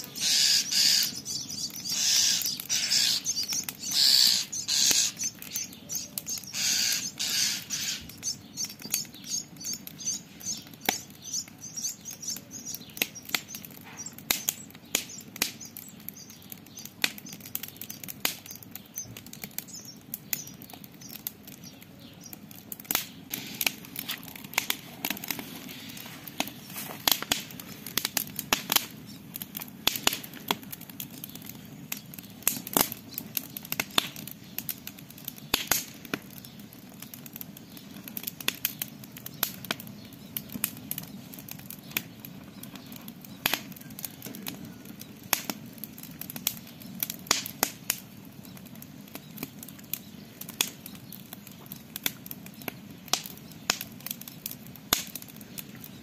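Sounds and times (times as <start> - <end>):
campfire crackling and popping: 0.0 - 56.0
fire burning hiss: 0.0 - 56.0.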